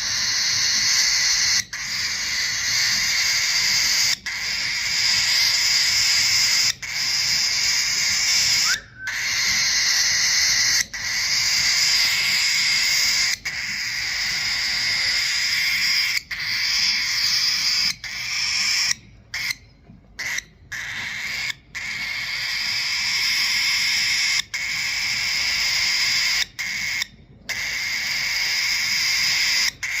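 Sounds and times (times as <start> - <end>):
baby bird hissing begging calls: 0.0 - 19.5, 20.2 - 30.0.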